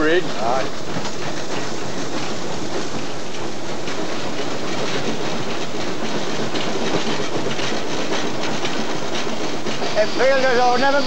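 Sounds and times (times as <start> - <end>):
steam locomotive clatter: 0.0 - 11.0
wheels clicking over rail joints: 0.0 - 11.0.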